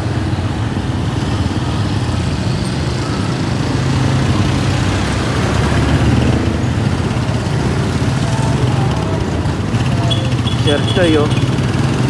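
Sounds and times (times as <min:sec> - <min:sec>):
small motorcycle engine humming: 0:00.4 - 0:12.0.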